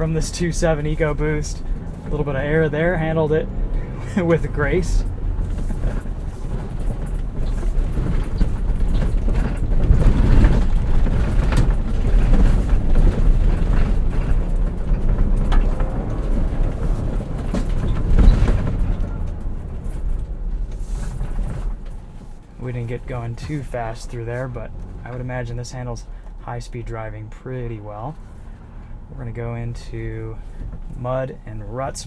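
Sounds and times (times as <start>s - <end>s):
car engine running: 0.0s - 32.0s
suspension knocks and rattles: 0.0s - 32.0s.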